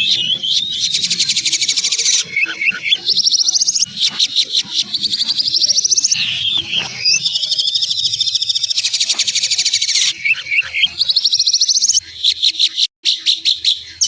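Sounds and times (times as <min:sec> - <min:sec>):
songbird trilling: 0:00.0 - 0:13.5
bird slurred whistles: 0:00.0 - 0:13.8.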